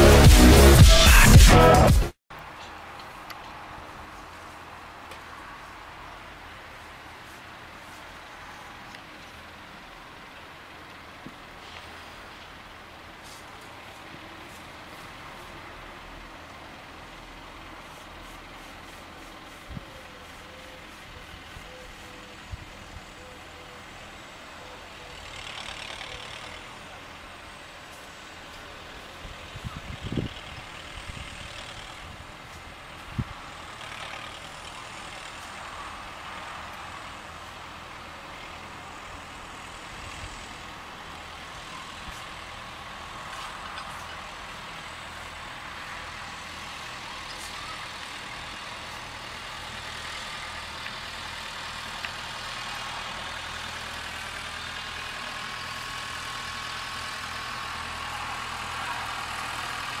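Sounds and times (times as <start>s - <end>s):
tractor diesel engine running: 5.6s - 60.0s.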